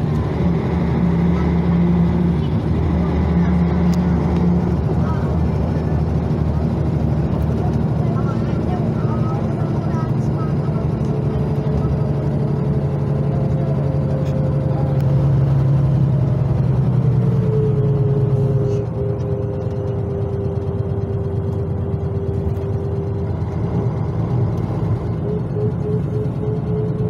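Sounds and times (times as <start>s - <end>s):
bus diesel engine running: 0.0s - 27.0s
steady drivetrain whine: 0.0s - 27.0s.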